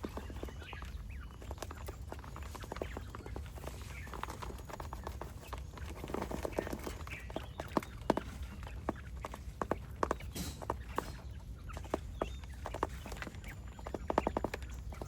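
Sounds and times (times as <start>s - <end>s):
chickens clucking: 0.0s - 15.0s
chickens pecking: 0.0s - 15.0s.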